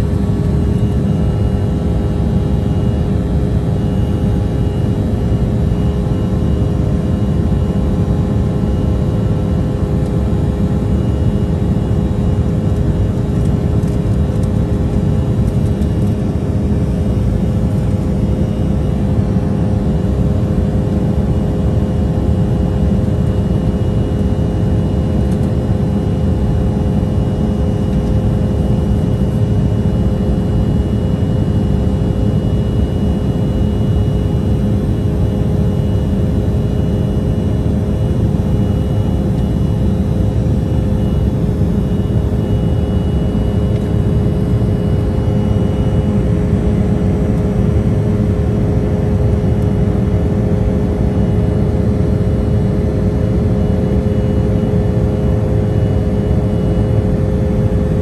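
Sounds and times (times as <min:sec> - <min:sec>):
faint high whine: 0:00.0 - 0:58.0
jet engine and airflow rumble: 0:00.0 - 0:58.0
steady hum: 0:00.0 - 0:58.0.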